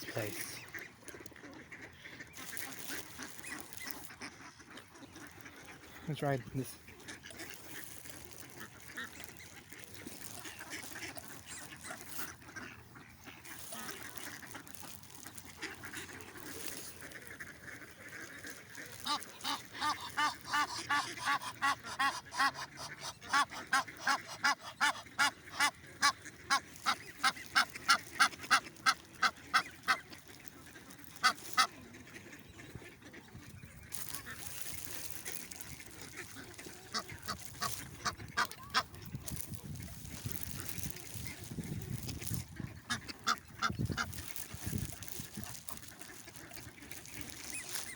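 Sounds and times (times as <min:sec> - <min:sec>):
faint calls of other birds: 0:00.0 - 0:47.9
water bird honking: 0:00.0 - 0:47.9.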